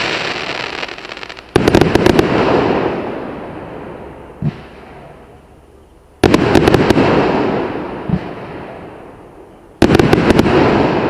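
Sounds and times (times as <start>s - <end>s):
fireworks cracking: 0.0s - 4.9s, 6.2s - 9.1s, 9.8s - 11.0s.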